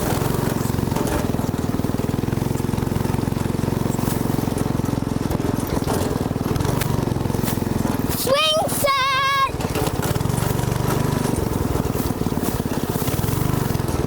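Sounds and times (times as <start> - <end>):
go-kart engine putter: 0.0 - 14.0.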